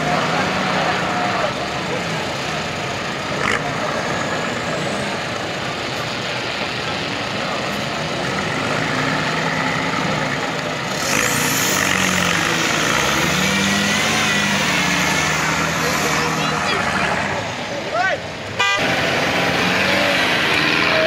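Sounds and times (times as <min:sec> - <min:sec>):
off-road vehicle engines: 0:00.0 - 0:21.0.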